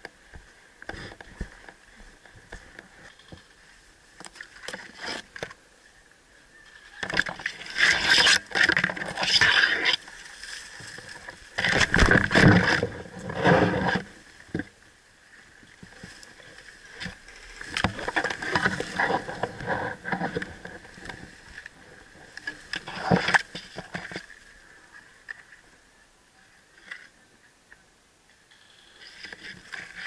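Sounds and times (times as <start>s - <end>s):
rustling and scraping of gear: 0.3s - 5.6s, 6.6s - 14.8s, 15.6s - 25.6s, 28.5s - 30.0s.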